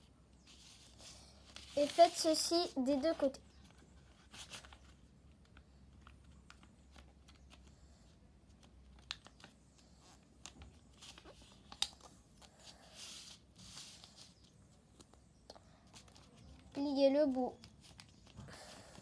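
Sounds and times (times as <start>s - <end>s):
paper rustling and creasing: 0.4s - 7.7s, 8.4s - 15.2s, 15.8s - 19.0s.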